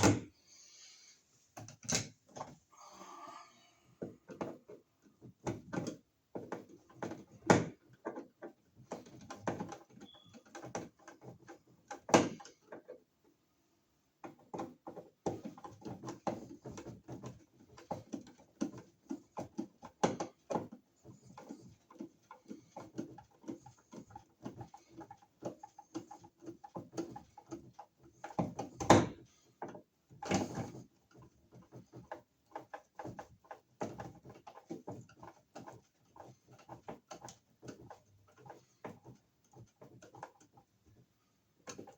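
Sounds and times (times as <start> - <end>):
outlet clicking and scraping: 3.9 - 13.1, 14.2 - 41.9.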